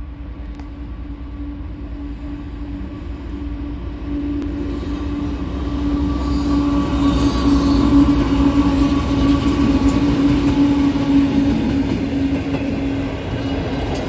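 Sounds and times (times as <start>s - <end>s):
diesel freight train rumbling: 0.0s - 14.0s.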